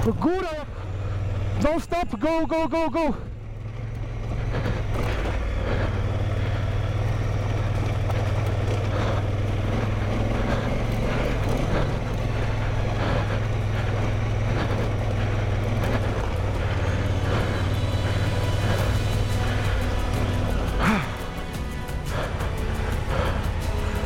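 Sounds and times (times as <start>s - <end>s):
motorcycle engine humming: 0.0s - 24.0s
tyres crunching on gravel: 0.0s - 24.0s.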